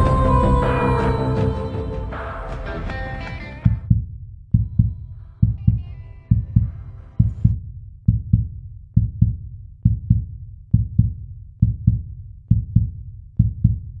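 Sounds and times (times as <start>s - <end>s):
heartbeat thumps: 0.0s - 14.0s.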